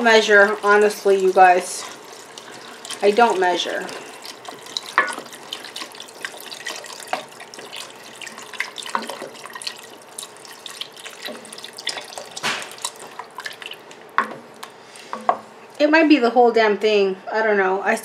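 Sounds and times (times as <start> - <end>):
liquid pouring into a pot: 0.0 - 14.8.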